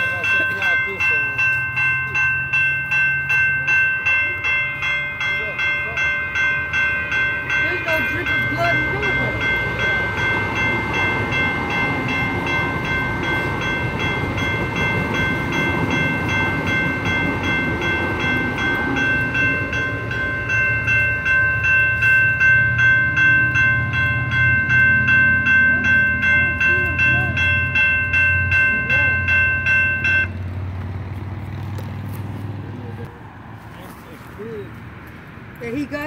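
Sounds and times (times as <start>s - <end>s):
electronic crossing bell ringing: 0.0s - 30.5s
train passing: 0.0s - 36.0s.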